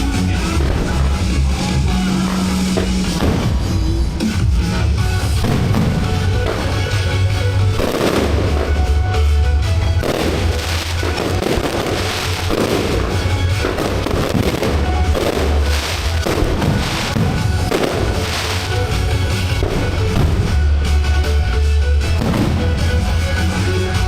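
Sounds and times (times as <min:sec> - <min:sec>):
fireworks crackling: 0:00.0 - 0:24.0
loud music with heavy bass: 0:00.0 - 0:24.0.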